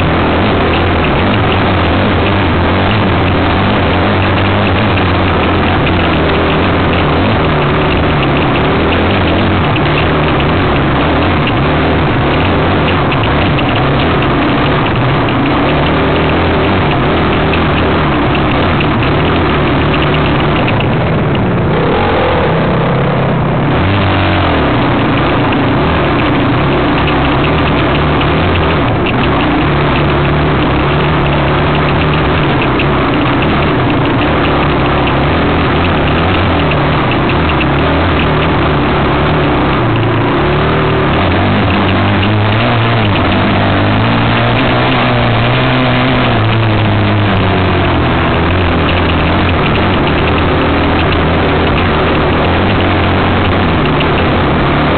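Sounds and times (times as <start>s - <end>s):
dirt bike engine revving: 0.0s - 54.9s
rattling and rushing noise: 0.0s - 54.9s.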